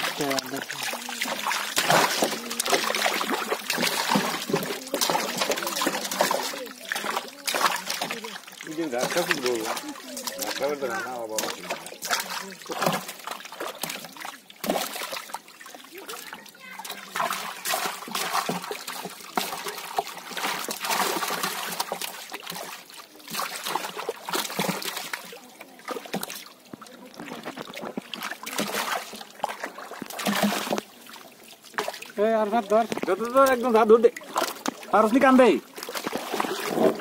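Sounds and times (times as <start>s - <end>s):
water splashing and trickling: 0.0s - 37.0s.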